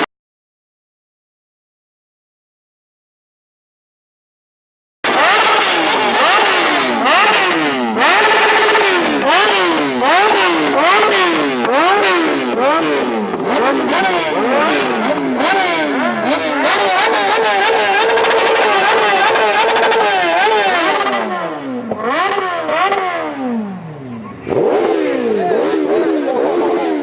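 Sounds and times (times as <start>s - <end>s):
motorcycle engines revving: 5.0s - 27.0s.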